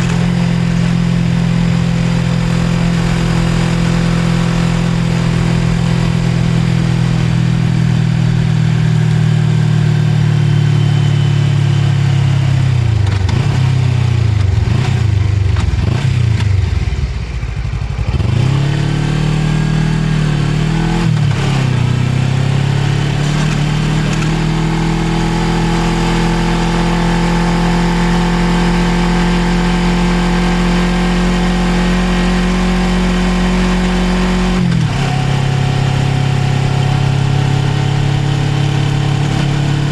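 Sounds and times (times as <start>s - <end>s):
motorcycle engine on the move: 0.0s - 39.9s.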